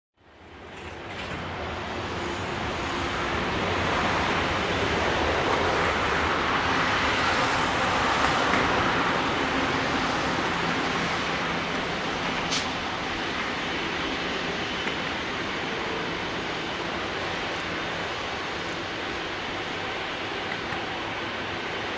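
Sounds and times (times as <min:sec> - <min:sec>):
jet engines running: 0:00.8 - 0:21.9.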